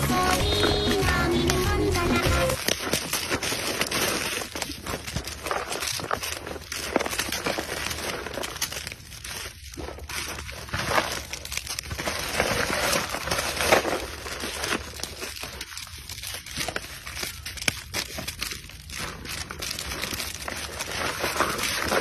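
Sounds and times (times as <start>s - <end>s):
plastic wrappers crinkling: 0.0s - 22.0s.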